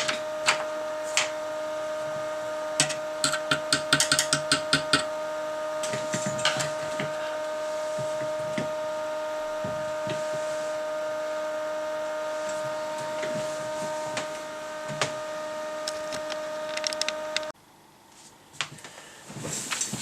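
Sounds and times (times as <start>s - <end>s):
high-pitched electronic whine: 0.0s - 17.6s.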